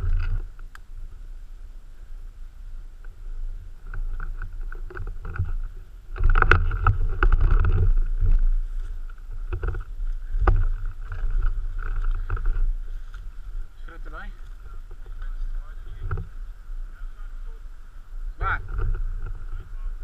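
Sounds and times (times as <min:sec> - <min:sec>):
rumbling microphone movement noise: 0:00.0 - 0:20.0.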